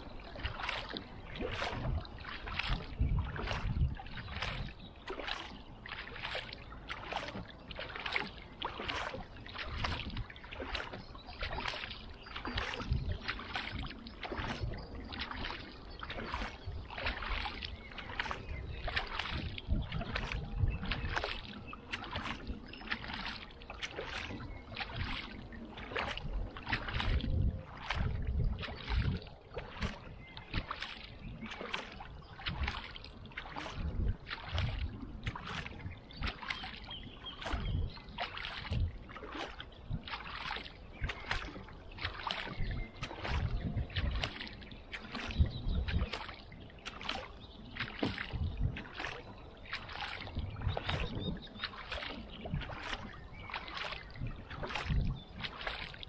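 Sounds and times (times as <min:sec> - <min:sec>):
kayak paddle splashes: 0:00.0 - 0:56.0.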